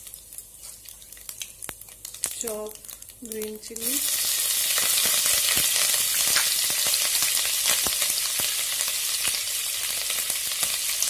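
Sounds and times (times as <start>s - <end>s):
chillies sizzling in hot oil: 0.0s - 11.0s.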